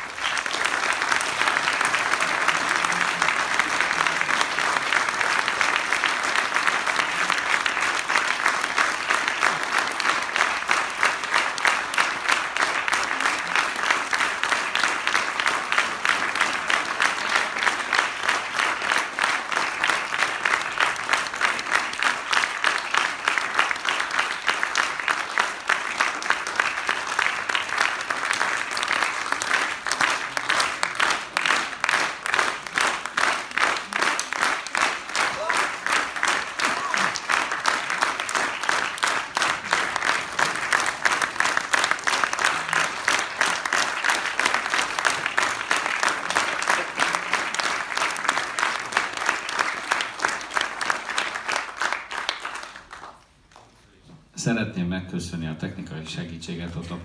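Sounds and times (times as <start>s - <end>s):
audience applauding: 0.0s - 53.8s.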